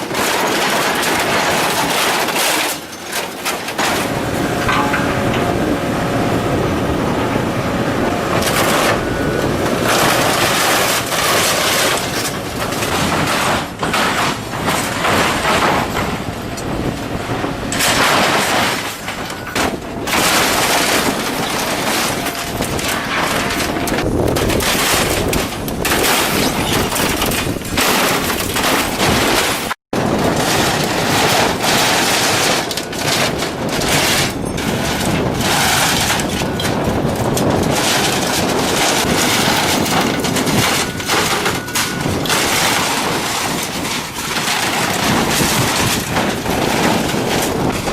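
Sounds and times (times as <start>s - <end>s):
scrap metal crunching and cracking: 0.0s - 47.9s.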